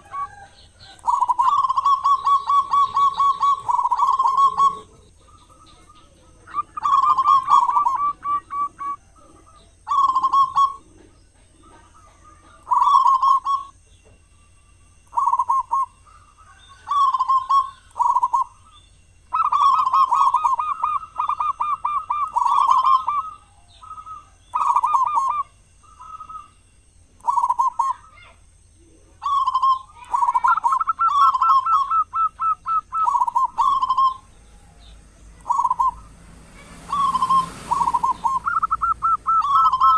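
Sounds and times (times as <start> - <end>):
dove cooing: 0.0 - 14.2, 15.0 - 26.6, 27.2 - 39.9.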